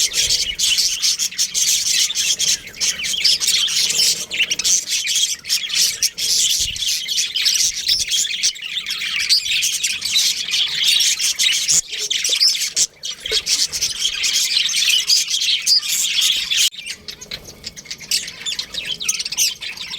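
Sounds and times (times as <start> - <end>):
budgerigars chattering: 0.0 - 19.9.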